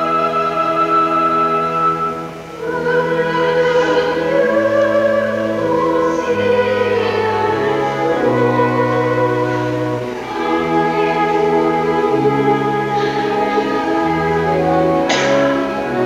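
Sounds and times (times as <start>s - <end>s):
singing: 0.0s - 16.0s
slow held chords: 0.0s - 16.0s.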